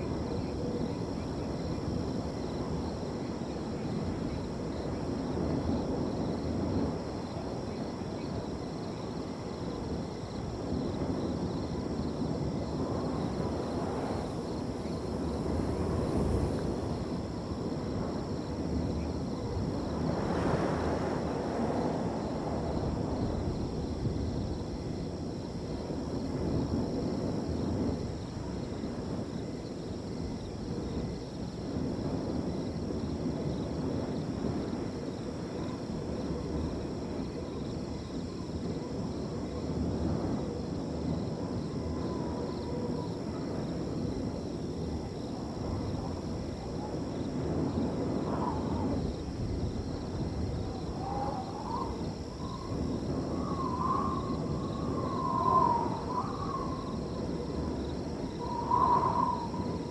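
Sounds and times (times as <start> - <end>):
crickets trilling: 0.0 - 59.9
wind rushing across a field: 0.0 - 59.9.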